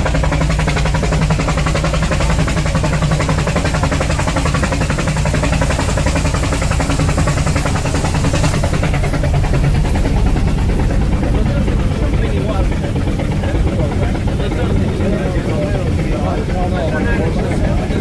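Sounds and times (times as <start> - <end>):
steam locomotive puffing: 0.0 - 18.0
train running rumble: 0.0 - 18.0.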